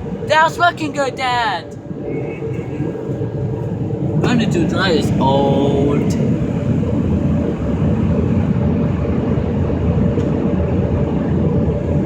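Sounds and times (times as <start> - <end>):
car wash blower dryer: 1.8 - 12.0.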